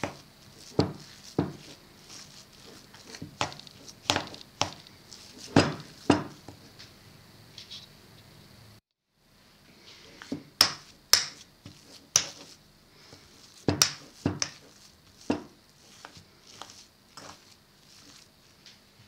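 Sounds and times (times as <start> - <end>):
spoon stirring batter scrapes: 0.0 - 6.8, 9.8 - 18.8.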